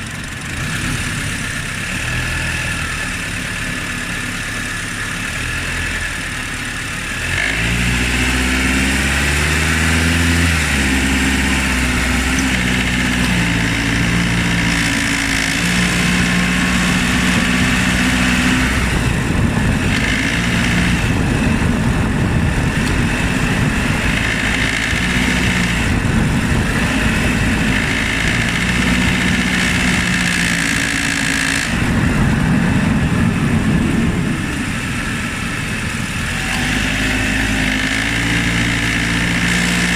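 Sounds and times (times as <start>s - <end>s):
car engine running: 0.0s - 39.9s
rough road noise: 0.0s - 39.9s.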